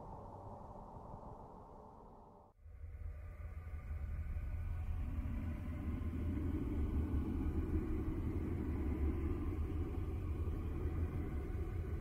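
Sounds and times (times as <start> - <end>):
deep steady rumbling: 0.0 - 12.0
faint steady tones: 0.0 - 12.0.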